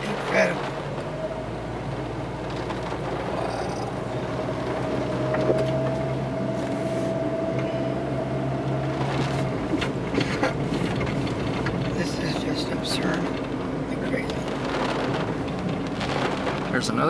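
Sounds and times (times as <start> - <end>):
car engine and road hum: 0.0 - 17.0.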